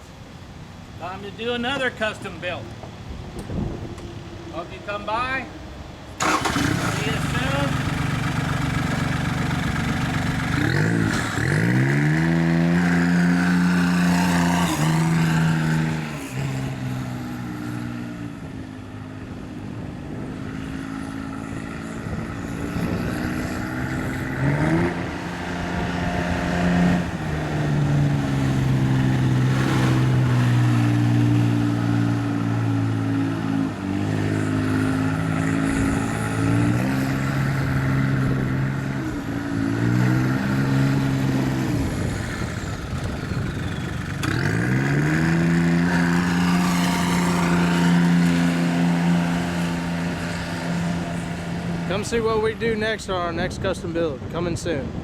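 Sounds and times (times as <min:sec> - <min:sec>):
diesel engine revving: 0:06.1 - 0:18.0, 0:20.1 - 0:53.6.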